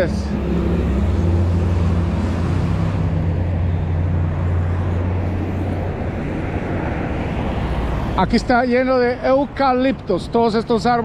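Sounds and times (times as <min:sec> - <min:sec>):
tyre and traffic noise: 0:00.0 - 0:11.0
vehicle engine humming: 0:00.0 - 0:11.0.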